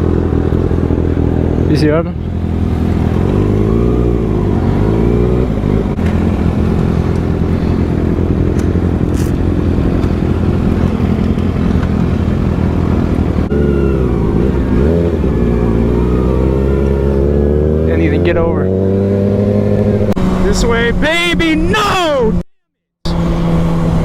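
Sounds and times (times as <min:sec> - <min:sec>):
motorcycle engine revving: 0:00.0 - 0:21.4, 0:23.0 - 0:24.0.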